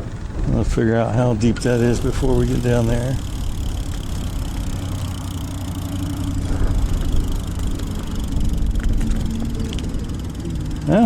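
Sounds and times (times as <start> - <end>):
faint steady hum: 0.0 - 11.0
tyres and drivetrain rumbling: 0.0 - 11.0
small clicks: 1.4 - 11.0.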